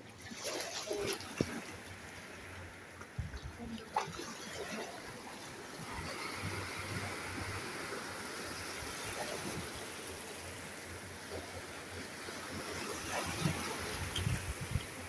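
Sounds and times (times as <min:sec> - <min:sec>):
small waves breaking on sand: 0:00.0 - 0:15.0.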